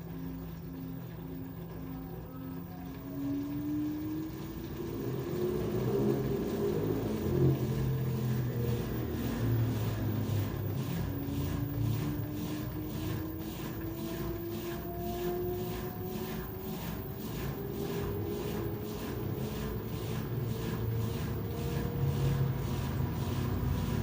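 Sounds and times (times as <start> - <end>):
washer motor whine: 0.0 - 24.0.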